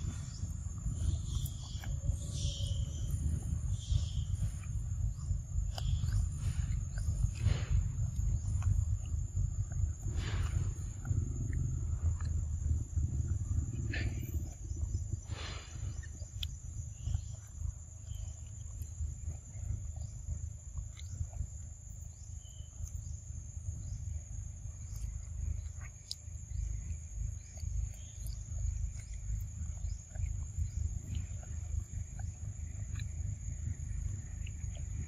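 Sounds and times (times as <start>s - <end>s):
high insect drone: 0.0s - 35.0s
low fluctuating rumble: 0.0s - 35.0s.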